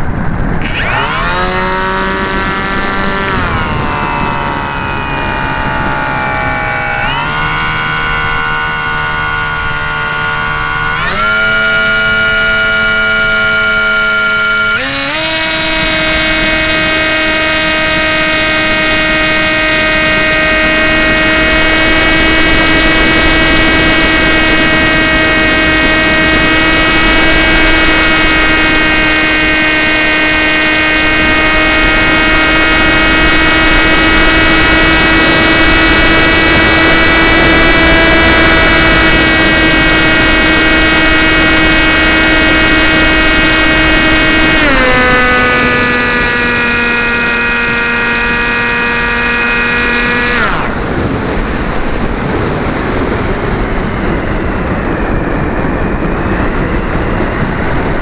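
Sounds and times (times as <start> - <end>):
model aircraft motor whine: 0.0 - 58.0
wind rushing over microphone: 0.0 - 58.0.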